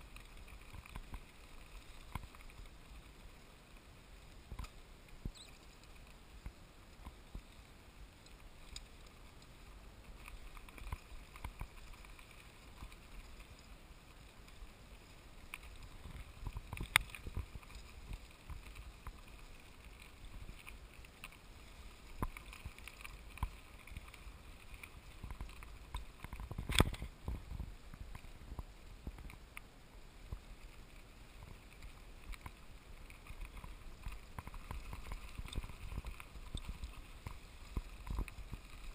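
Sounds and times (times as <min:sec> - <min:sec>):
bicycle rolling over rocky trail: 0:00.0 - 0:38.9.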